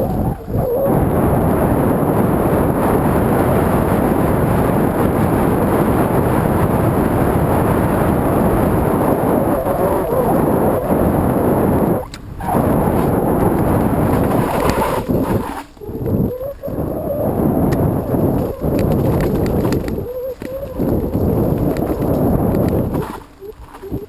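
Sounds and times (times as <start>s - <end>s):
bike tyre and trail noise: 0.0s - 24.0s
wind buffeting microphone: 0.0s - 24.0s.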